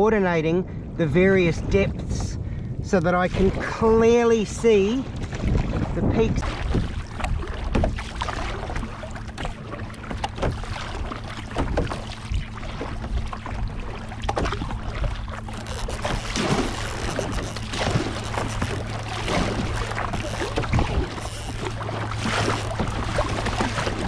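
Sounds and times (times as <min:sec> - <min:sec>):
water sloshing along hull: 0:00.1 - 0:24.0
paddle blades splashing: 0:03.1 - 0:24.0.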